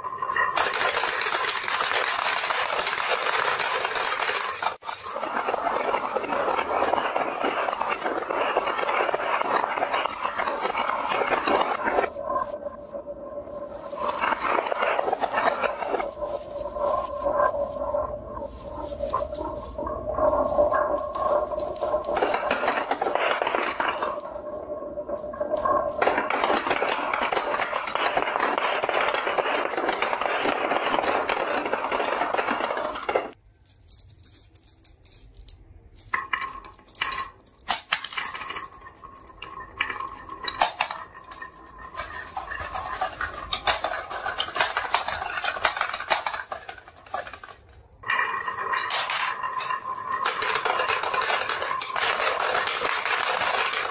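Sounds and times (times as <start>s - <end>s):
marbles rattling down wooden run: 0.0s - 13.0s, 13.6s - 17.6s, 18.8s - 53.9s.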